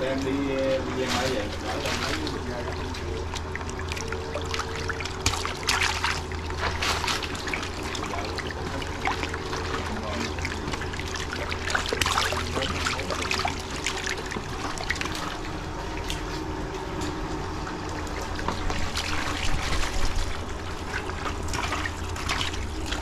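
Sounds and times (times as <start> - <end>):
low steady hum: 0.0 - 23.0
water splashing and trickling: 0.0 - 23.0.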